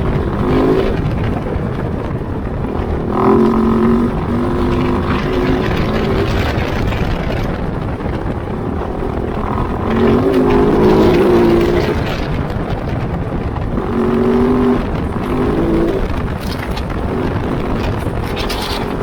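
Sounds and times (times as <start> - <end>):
bike rumbling on rough ground: 0.0 - 19.0
motorcycle engine running: 0.0 - 19.0.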